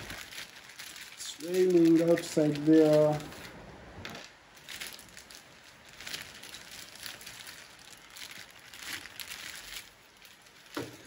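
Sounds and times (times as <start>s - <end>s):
rain patter and hiss: 0.0s - 11.0s.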